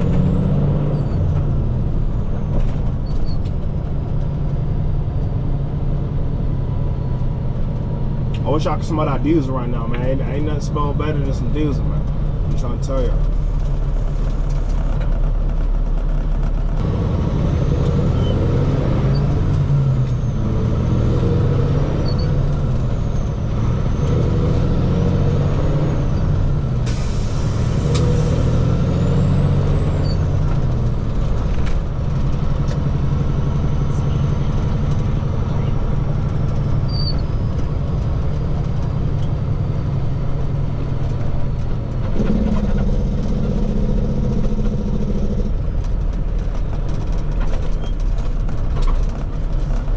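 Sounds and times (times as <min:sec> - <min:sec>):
diesel truck engine driving: 0:00.0 - 0:49.9.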